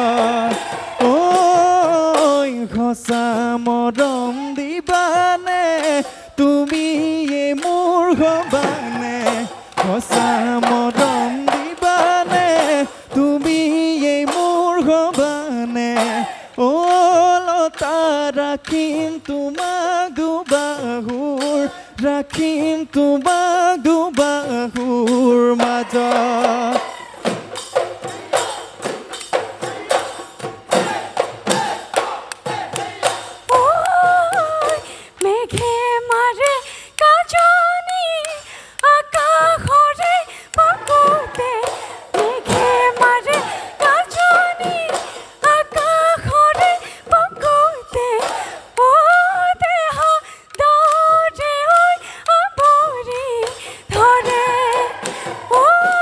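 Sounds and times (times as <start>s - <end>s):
woman singing: 0.0s - 27.2s, 32.5s - 56.0s
drum beats: 0.0s - 56.0s.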